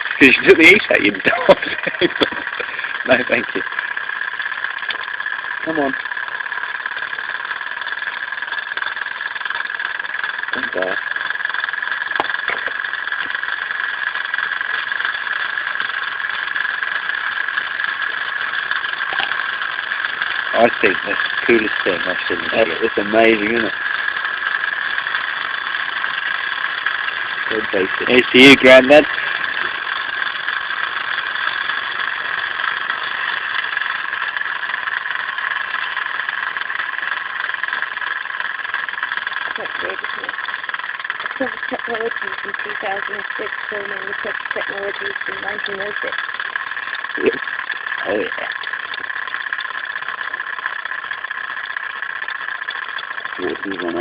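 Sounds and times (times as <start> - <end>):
model steam engine hissing: 0.0 - 54.0.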